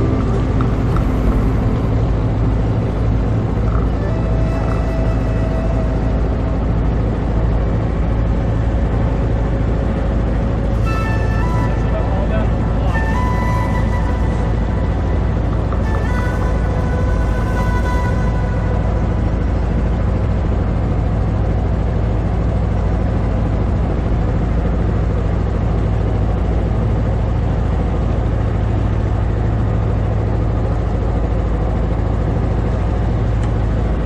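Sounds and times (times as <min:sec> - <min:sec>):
boat motor droning: 0:00.0 - 0:34.0
water rushing along hull: 0:00.0 - 0:34.0.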